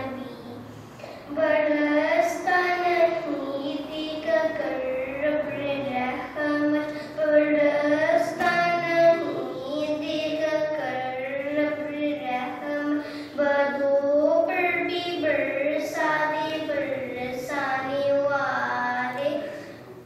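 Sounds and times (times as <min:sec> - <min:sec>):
boy singing into a microphone: 0:01.3 - 0:19.8.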